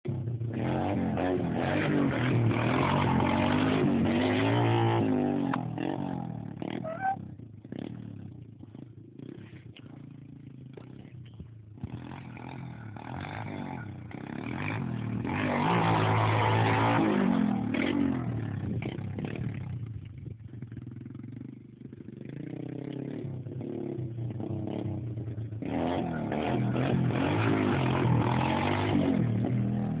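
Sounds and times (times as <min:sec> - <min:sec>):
motorbike engine revving hard: 0:00.4 - 0:09.5, 0:11.8 - 0:19.6, 0:22.2 - 0:30.0.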